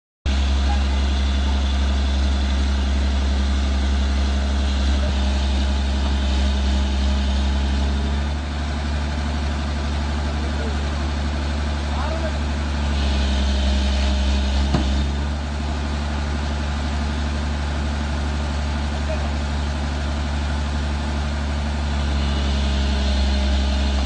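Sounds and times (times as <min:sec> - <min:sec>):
excavator diesel engine humming: 0:00.3 - 0:24.0.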